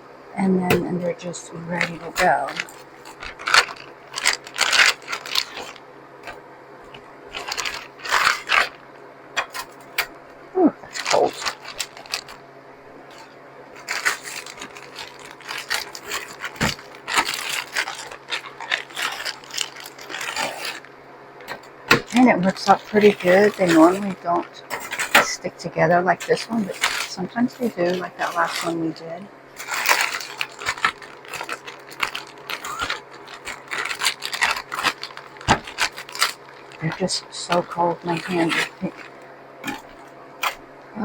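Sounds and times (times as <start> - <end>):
plastic bag rustling: 0.4 - 41.0
frozen food clattering on tray: 0.7 - 8.8, 9.4 - 10.1, 10.9 - 12.4, 13.1 - 29.0, 29.6 - 40.6.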